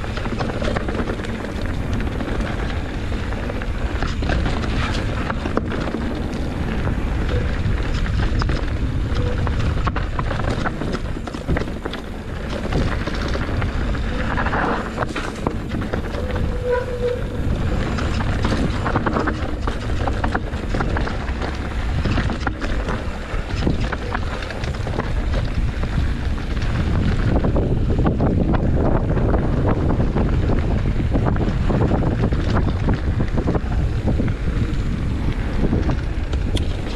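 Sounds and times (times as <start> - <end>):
bike rattling and knocking: 0.0 - 36.9
wind buffeting microphone: 0.0 - 36.9.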